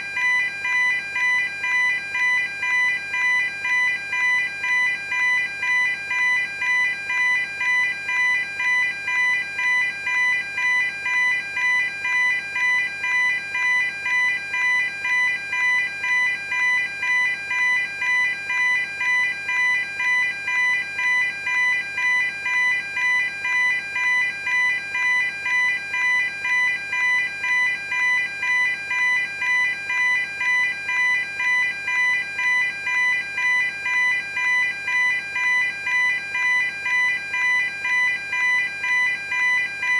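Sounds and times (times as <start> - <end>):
level crossing alarm dinging: 0.0 - 39.9.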